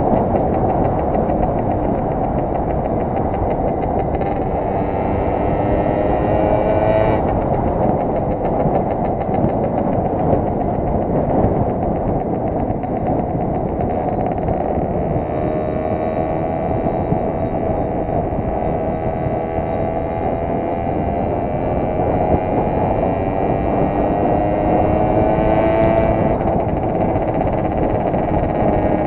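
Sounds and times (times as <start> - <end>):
moped engine running: 0.0 - 29.0
wind noise on microphone: 0.0 - 29.0.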